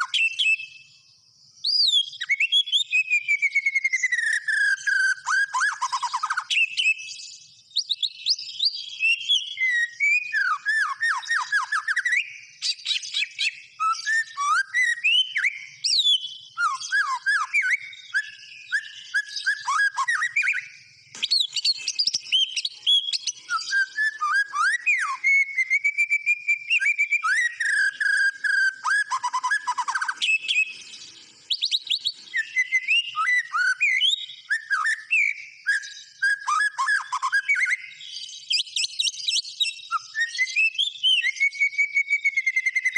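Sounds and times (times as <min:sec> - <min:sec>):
bird singing whistles and trills: 0:00.0 - 0:42.9.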